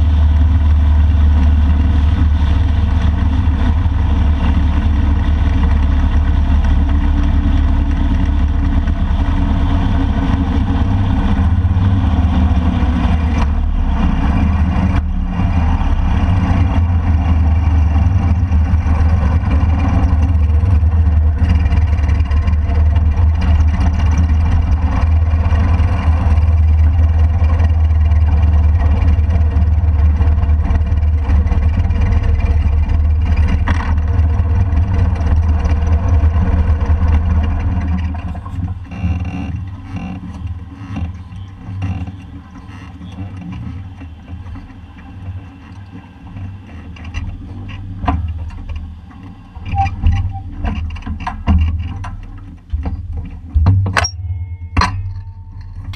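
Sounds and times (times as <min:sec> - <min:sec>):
motorcycle engine droning: 0:00.0 - 0:55.9
road noise: 0:00.0 - 0:55.9
wind noise: 0:00.0 - 0:55.9.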